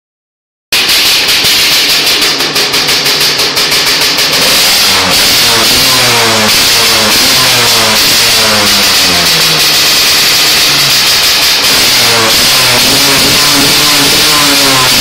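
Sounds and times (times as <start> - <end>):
motorcycle engine idling and revving: 0.8 - 15.0.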